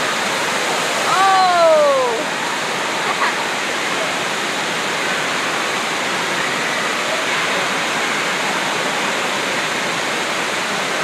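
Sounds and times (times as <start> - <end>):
water rushing on wave ride: 0.0 - 11.0.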